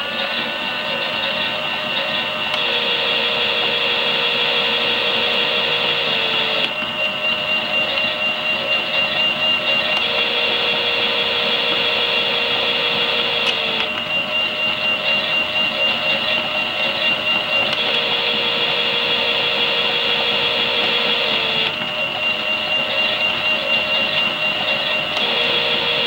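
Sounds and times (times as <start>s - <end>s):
toy washing machine motor whine: 0.0s - 26.0s.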